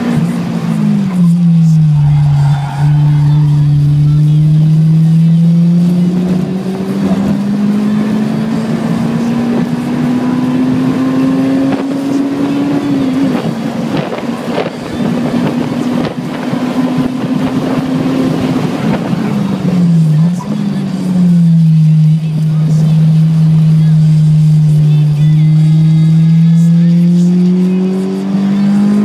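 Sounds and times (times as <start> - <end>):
car engine under load: 0.0 - 29.0.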